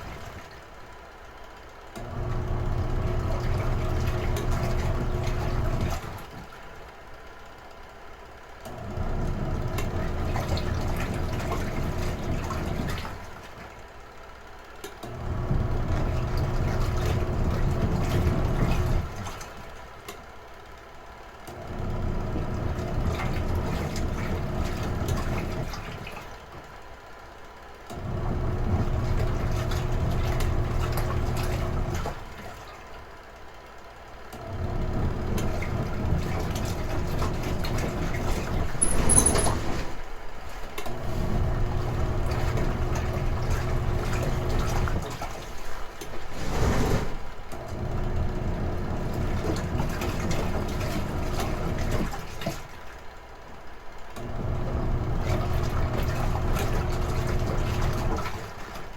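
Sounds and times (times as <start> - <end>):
washing machine motor humming: 0.0 - 1.2, 1.9 - 7.3, 8.6 - 14.0, 14.6 - 20.0, 21.4 - 26.8, 27.8 - 53.0, 53.9 - 58.9.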